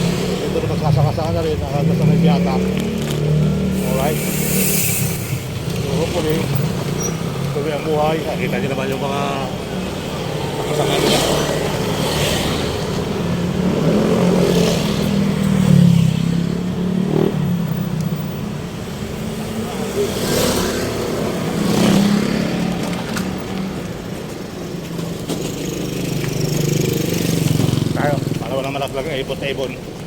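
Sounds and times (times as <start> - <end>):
road traffic passing: 0.0 - 30.0.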